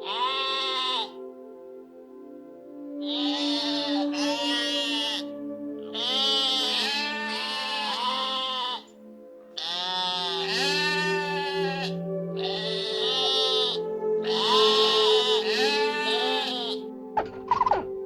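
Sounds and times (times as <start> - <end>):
sheep bleating: 0.0 - 1.2, 3.0 - 9.0, 9.6 - 18.0
background music with held notes: 0.0 - 18.0.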